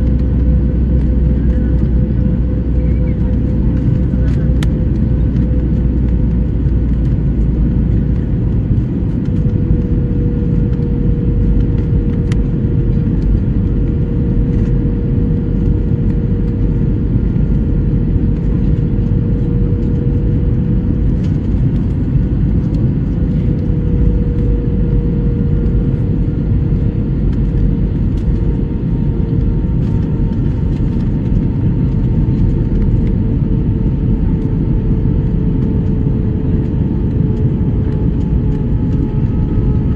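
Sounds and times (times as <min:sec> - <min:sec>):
airliner cabin engine drone: 0:00.0 - 0:39.9
constant hum-like tone: 0:00.0 - 0:39.9.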